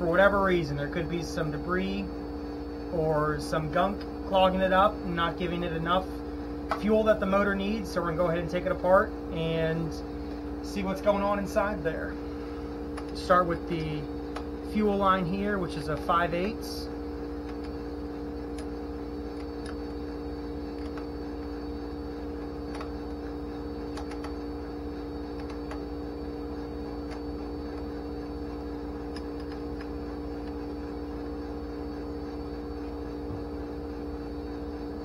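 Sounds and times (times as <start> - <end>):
machine hum with two-note drone: 0.0 - 35.0.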